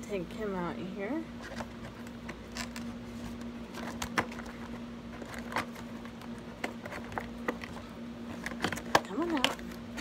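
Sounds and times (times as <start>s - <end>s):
faint hum: 0.0s - 10.0s
plastic packaging clicks and rustles: 1.4s - 10.0s.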